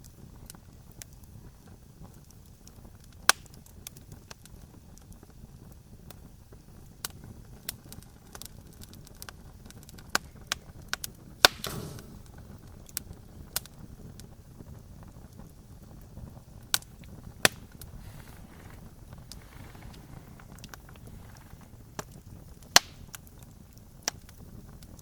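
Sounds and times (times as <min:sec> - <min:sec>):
campfire crackling: 0:00.0 - 0:25.0
fire hissing: 0:00.1 - 0:25.0.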